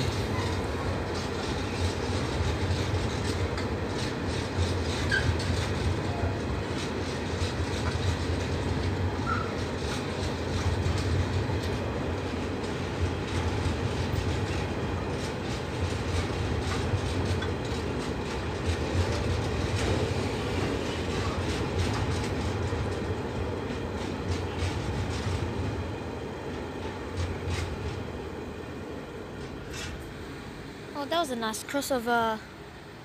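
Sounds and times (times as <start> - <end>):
train wheels rolling on rail: 0.0 - 33.0.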